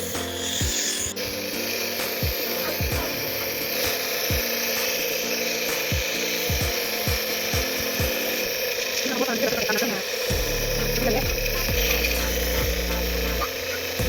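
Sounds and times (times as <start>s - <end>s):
nebulizer compressor buzzing: 0.0s - 14.0s.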